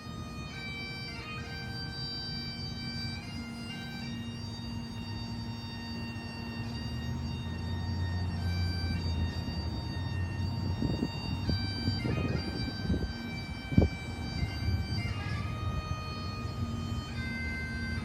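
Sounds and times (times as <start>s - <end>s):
bagpipes playing slow tune: 0.0s - 18.0s.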